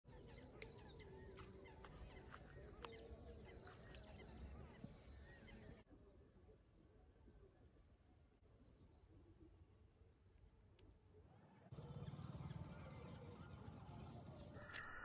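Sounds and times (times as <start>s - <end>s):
birds chirping: 0.1s - 5.9s, 7.4s - 15.0s.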